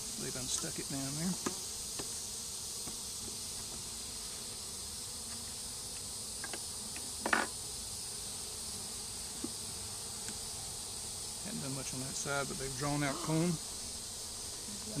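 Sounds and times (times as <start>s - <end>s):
high-pitched insect drone: 0.0s - 15.0s
honey bees buzzing: 0.0s - 15.0s.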